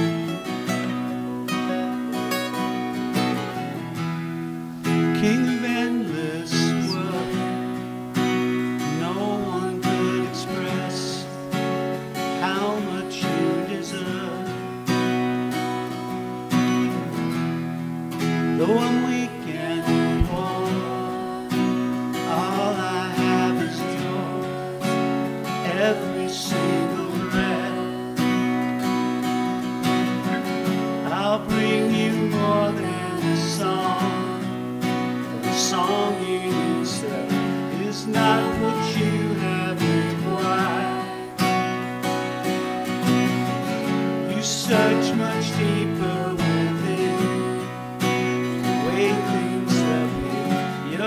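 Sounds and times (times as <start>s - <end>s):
acoustic guitars strumming: 0.0s - 51.0s
people singing: 5.1s - 15.2s, 18.5s - 51.0s.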